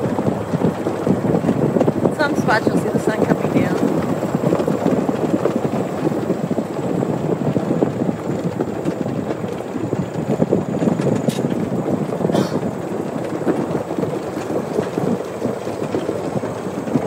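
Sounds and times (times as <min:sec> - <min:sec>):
off-road vehicle rumbling and rattling: 0:00.0 - 0:17.0
wind buffeting microphone: 0:00.0 - 0:17.0.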